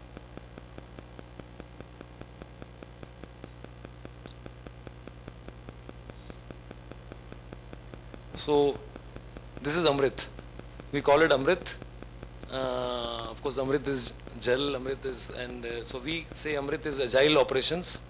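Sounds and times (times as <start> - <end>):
electrical hum and hiss: 0.0 - 18.0
regular electrical ticking: 0.0 - 18.0
steady high whine: 0.0 - 18.0.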